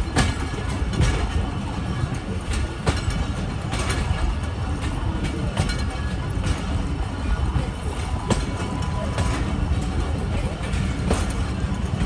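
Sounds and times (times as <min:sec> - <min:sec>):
train rumble: 0:00.0 - 0:12.0
wheels clacking over rails: 0:00.0 - 0:12.0.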